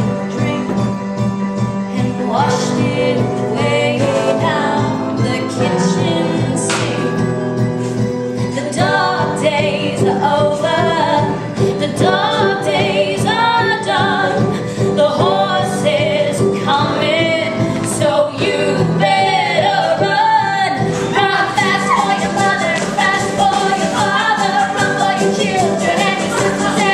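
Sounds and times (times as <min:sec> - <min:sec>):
song with singing voice: 0:00.0 - 0:26.9.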